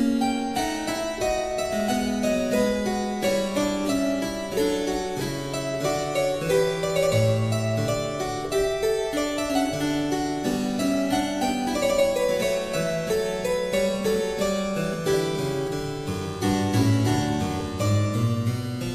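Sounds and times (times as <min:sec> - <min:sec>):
harpsichord music: 0:00.0 - 0:18.9.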